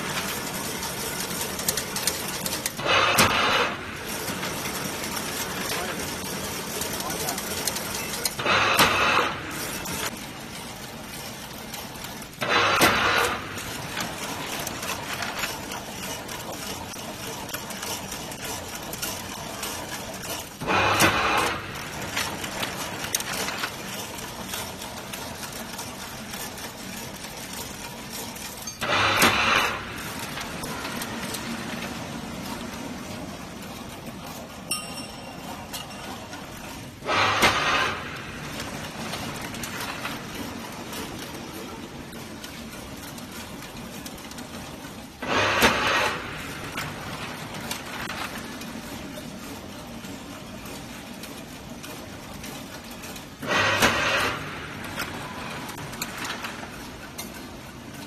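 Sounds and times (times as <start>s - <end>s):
weaving machine running: 0.0s - 58.0s.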